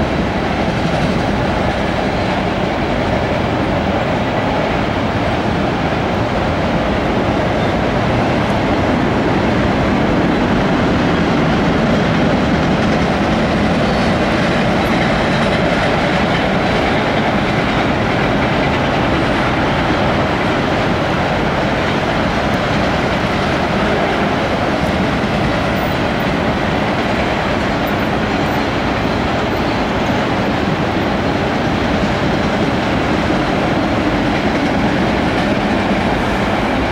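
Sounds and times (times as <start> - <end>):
steel wheels rolling on rails: 0.0 - 36.9.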